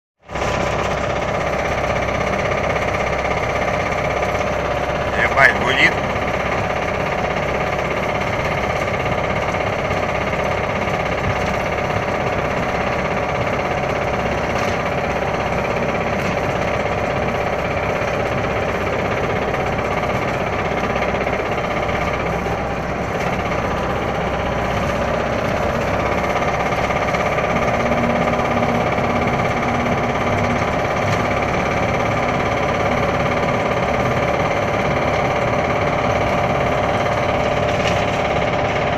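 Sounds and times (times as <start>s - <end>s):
car engine running: 0.2s - 38.9s
rapid engine knock: 0.3s - 38.9s.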